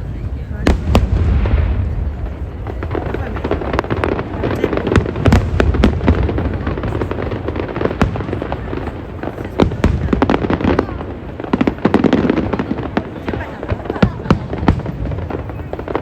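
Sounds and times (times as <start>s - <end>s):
low rumble of booms: 0.0s - 12.9s
fireworks bangs and crackles: 0.0s - 16.0s.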